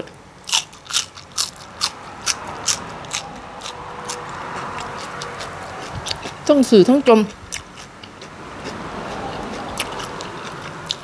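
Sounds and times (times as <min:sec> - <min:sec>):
crunchy chewing: 0:00.4 - 0:06.5, 0:07.2 - 0:11.0.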